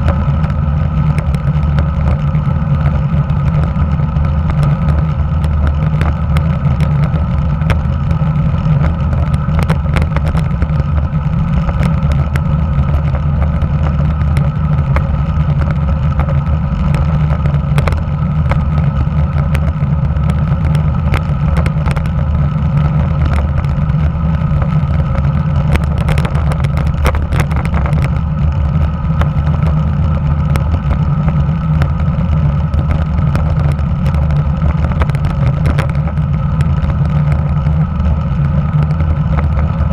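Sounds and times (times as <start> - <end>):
small clicks and rattles: 0.0 - 39.9
tyre rumble on asphalt: 0.0 - 39.9
wind rush: 0.0 - 39.9.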